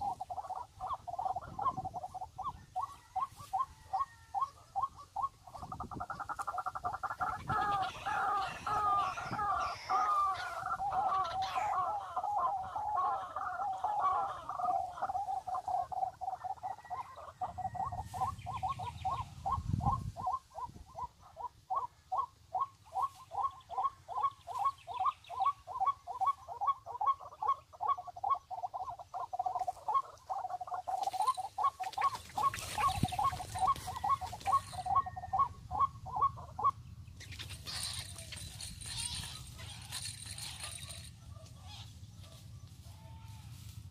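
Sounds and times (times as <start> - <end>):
animal calling: 0.0 - 43.8.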